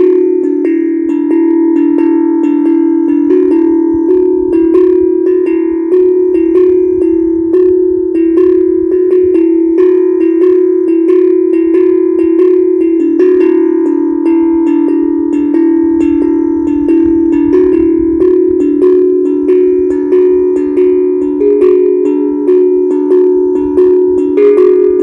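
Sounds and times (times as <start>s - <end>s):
steel tongue drum notes: 0.0s - 25.0s.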